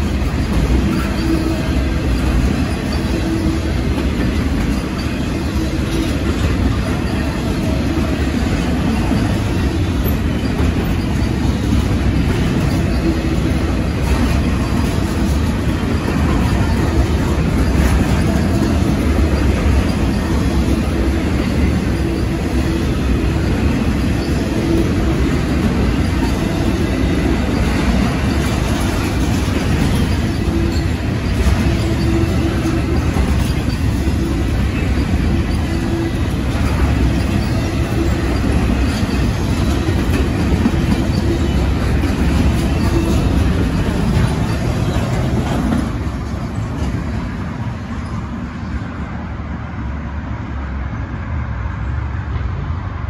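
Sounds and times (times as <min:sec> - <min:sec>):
freight train wheels rumbling on rail: 0:00.0 - 0:53.0.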